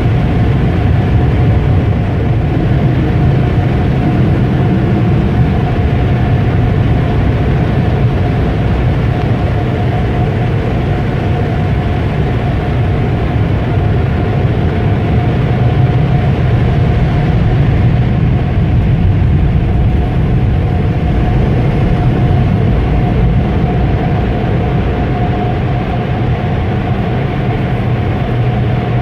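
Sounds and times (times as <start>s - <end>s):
car wash equipment roaring: 0.0s - 29.0s
constant tone: 0.0s - 29.0s.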